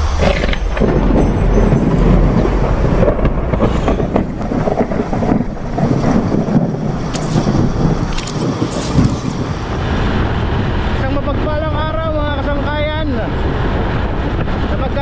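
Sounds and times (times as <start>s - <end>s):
thunder rumbling and crackling: 0.0s - 15.0s.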